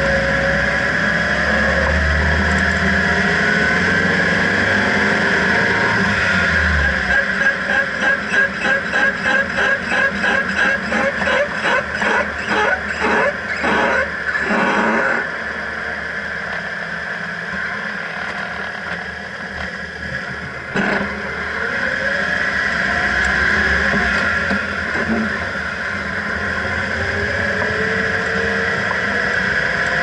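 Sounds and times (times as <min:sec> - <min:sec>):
truck steady drone: 0:00.0 - 0:30.0
rhythmic wheel hub noise: 0:05.1 - 0:30.0.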